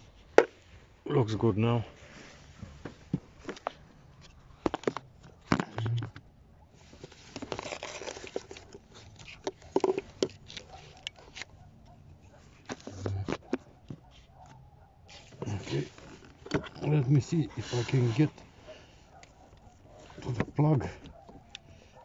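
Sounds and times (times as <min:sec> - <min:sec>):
handling clicks and knocks: 0:02.6 - 0:22.0.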